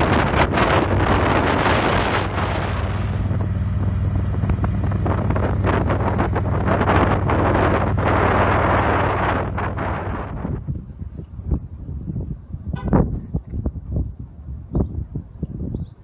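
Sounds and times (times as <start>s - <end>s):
motorcycle engine hum: 0.0s - 16.0s
wind buffeting microphone: 0.0s - 16.0s.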